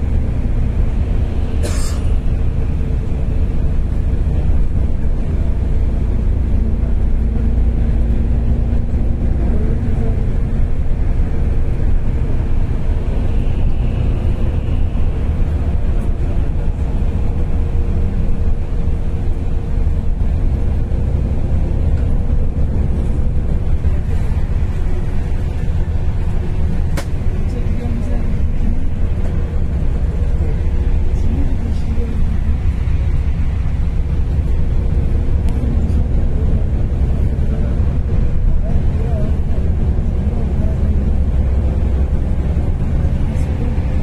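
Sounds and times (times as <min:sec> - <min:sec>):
bus engine and road rumble: 0:00.0 - 0:44.0.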